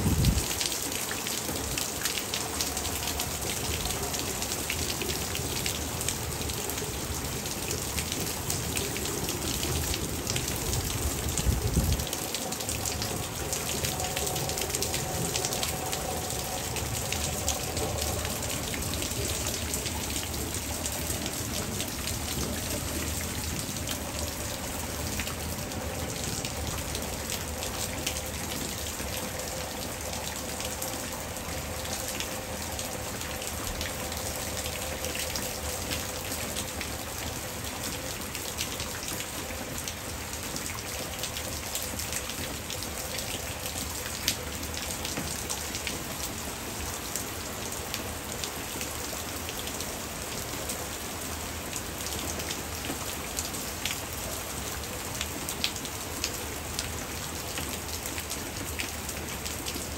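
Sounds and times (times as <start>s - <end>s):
hard rain falling: 0.0s - 59.9s.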